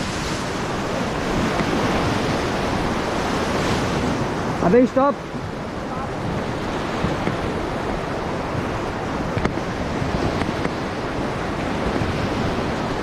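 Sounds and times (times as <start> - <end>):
river rapids rushing: 0.0 - 13.0
wind buffeting microphone: 0.0 - 13.0.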